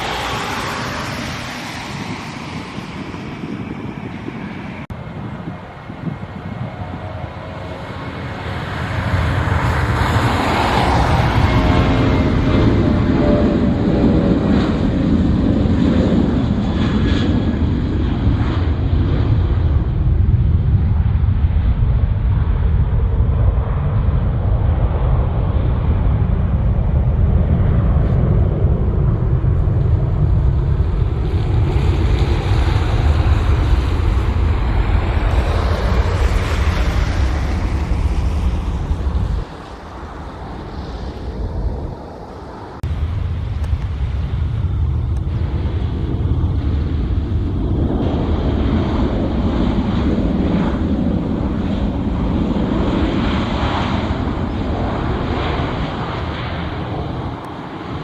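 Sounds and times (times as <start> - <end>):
heavy low rumble: 0.0 - 58.0
jet airliner roar: 0.0 - 58.0.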